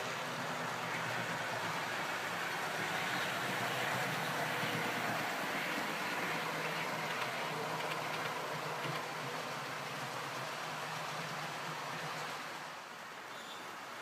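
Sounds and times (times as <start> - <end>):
model train wheels on rail: 0.0 - 14.0.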